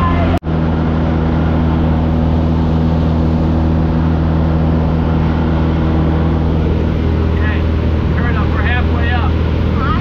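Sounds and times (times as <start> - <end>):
light plane engine droning: 0.0 - 10.0
wind rushing: 0.5 - 10.0.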